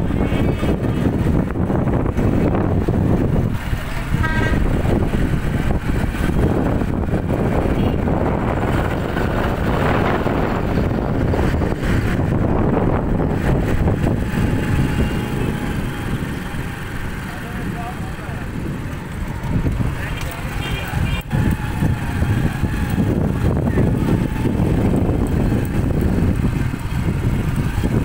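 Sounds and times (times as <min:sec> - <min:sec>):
motorcycles and vehicles rumbling: 0:00.0 - 0:28.0.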